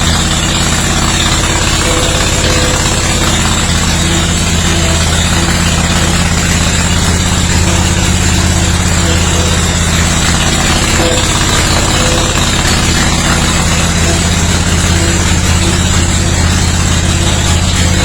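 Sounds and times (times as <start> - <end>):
mower engine running steadily: 0.0 - 18.0.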